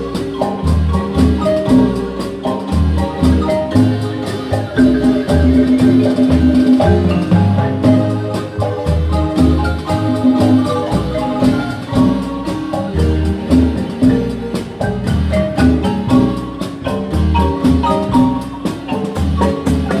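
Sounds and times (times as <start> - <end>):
deep bass marimba notes: 0.0 - 20.0
marimba playing: 0.0 - 20.0.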